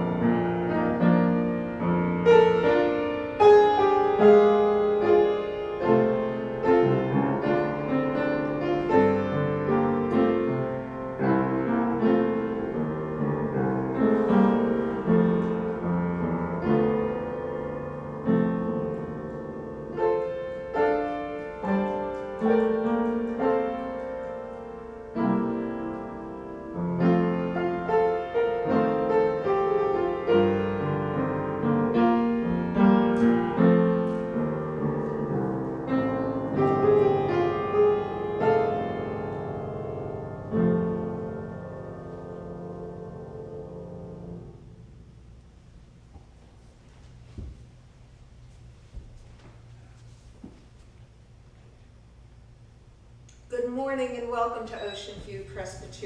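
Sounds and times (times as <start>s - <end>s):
solo piano: 0.0s - 50.0s.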